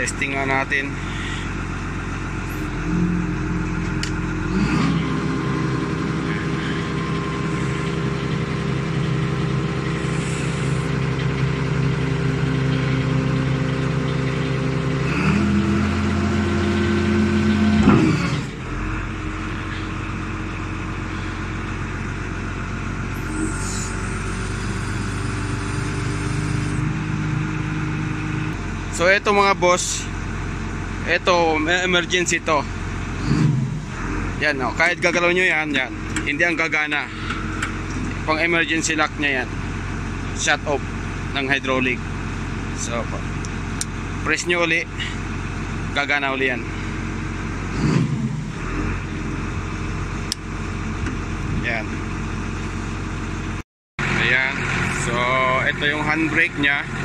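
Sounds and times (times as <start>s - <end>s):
forklift diesel engine running: 0.0s - 57.0s.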